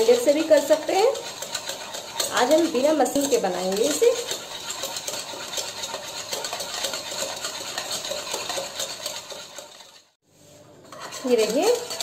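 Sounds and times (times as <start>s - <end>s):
spoon clinking and scraping bowl: 0.0s - 10.2s, 10.8s - 12.0s.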